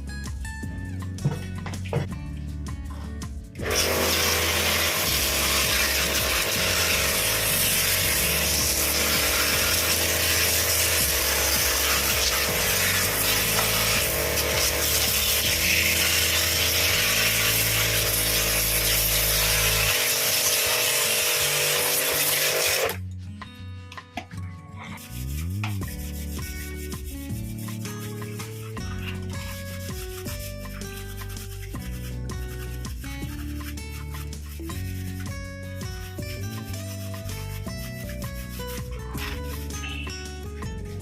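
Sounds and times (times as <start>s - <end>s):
background music: 0.0s - 41.0s.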